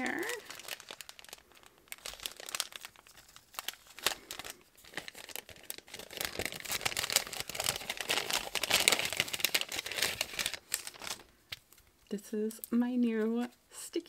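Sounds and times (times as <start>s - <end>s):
paper wrapper crinkling: 0.0s - 11.9s.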